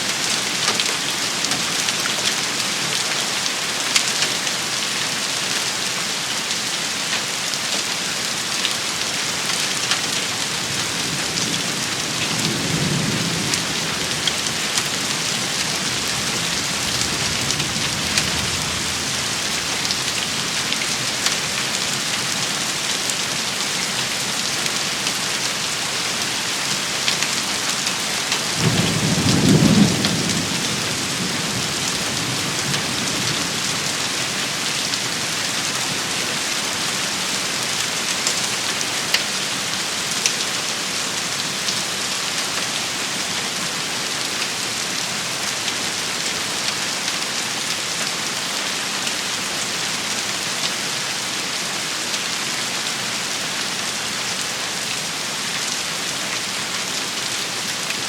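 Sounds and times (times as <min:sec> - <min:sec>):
rain and hail pattering: 0:00.0 - 0:58.0.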